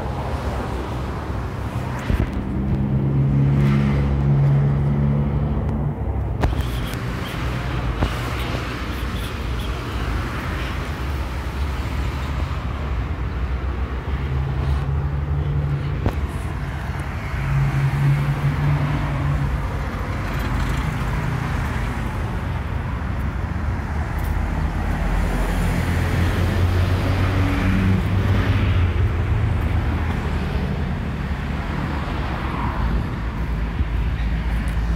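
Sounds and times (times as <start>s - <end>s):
vehicles passing: 0.0s - 34.9s.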